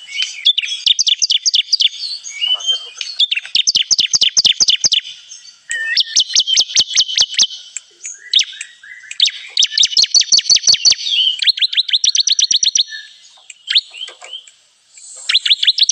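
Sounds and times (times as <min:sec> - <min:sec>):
bird song rapid high trills: 0:00.0 - 0:15.9.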